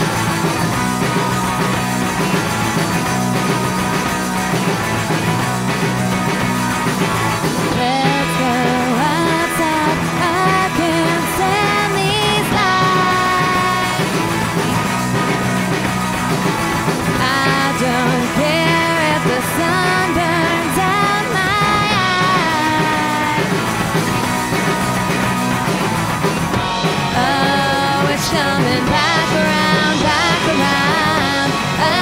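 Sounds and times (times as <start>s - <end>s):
rock band playing live: 0.0s - 32.0s.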